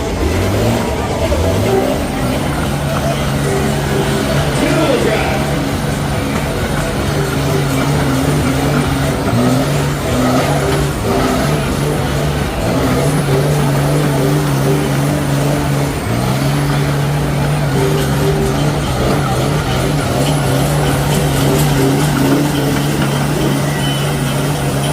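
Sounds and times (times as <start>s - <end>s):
truck engine running hard: 0.0s - 24.9s.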